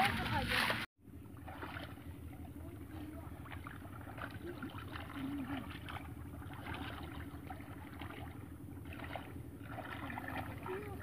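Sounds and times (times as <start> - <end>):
hands splashing in muddy water: 0.0 - 2.1, 2.9 - 11.0
low mechanical hum: 0.0 - 11.0.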